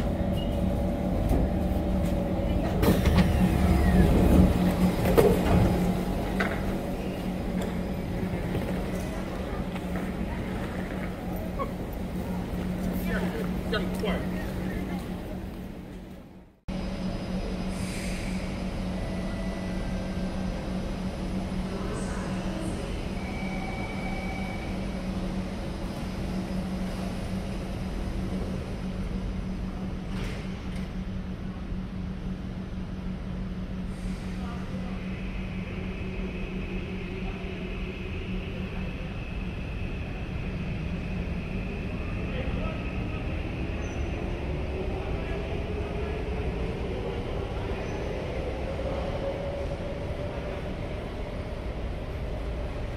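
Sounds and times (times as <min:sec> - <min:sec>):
train standing at platform: 0:00.0 - 0:52.9.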